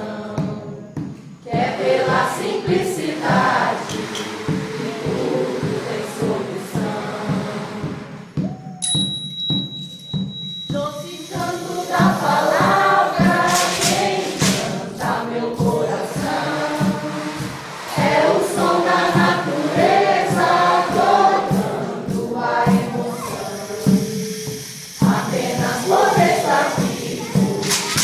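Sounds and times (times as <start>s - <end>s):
group of voices singing: 0.0s - 8.5s, 10.8s - 28.0s
music with steady beat: 0.0s - 28.0s.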